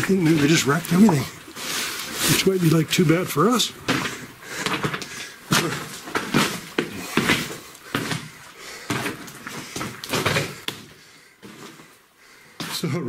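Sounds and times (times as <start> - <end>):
footsteps crunching on gravel: 0.0 - 10.7.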